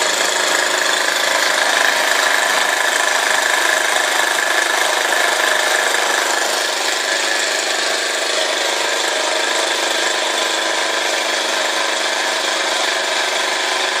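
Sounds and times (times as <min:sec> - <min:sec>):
toy steam engine whirring: 0:00.0 - 0:14.0.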